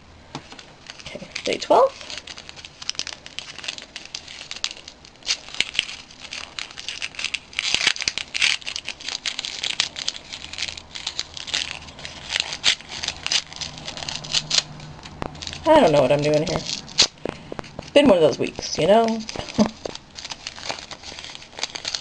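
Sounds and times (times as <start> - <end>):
gift wrapping crinkling and tearing: 0.4 - 22.0.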